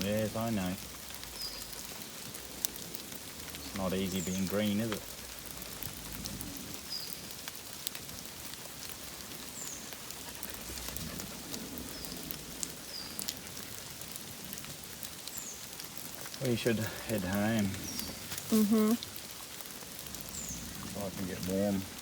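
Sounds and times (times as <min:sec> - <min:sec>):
raindrops ticking: 0:00.0 - 0:22.0
steady rain: 0:00.0 - 0:22.0.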